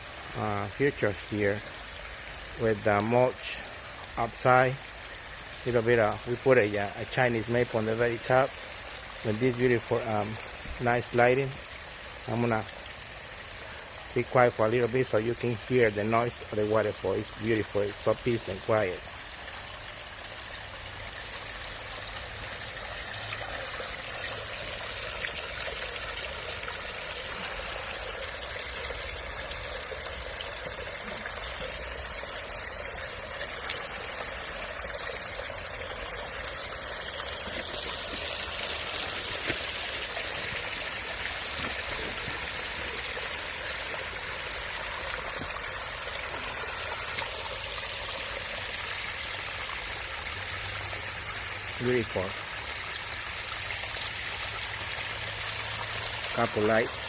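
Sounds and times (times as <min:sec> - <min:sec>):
waterfall splashing and trickling: 0:00.0 - 0:57.0.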